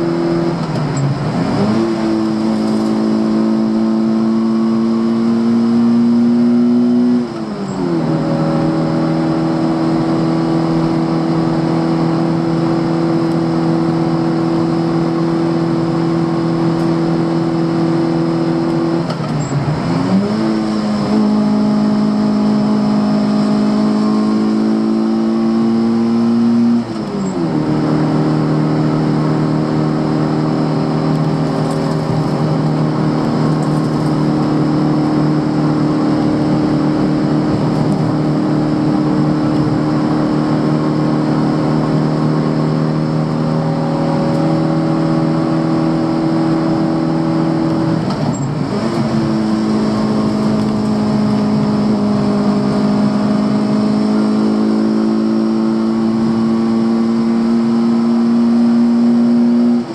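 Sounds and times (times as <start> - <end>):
car engine at high revs: 0.0 - 59.9
road noise: 0.0 - 59.9.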